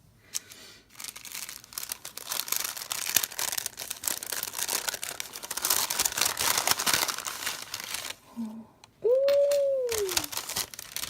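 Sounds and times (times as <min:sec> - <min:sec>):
crinkly packaging rustling: 0:00.4 - 0:08.4, 0:09.3 - 0:11.0.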